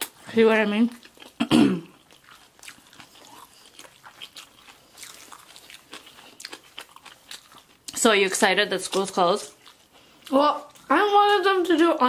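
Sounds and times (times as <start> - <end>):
close chewing mouth sounds: 0.0 - 12.0.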